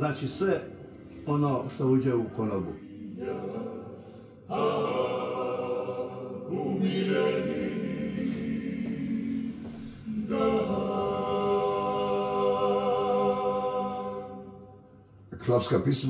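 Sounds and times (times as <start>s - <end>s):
male a cappella group singing: 0.0s - 14.8s.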